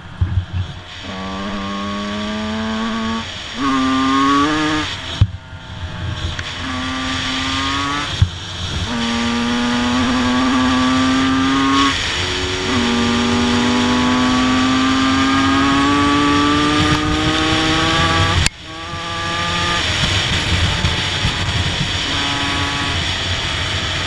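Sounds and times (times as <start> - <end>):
two-stroke motorbike engine revving: 1.0 - 5.4, 6.2 - 24.0.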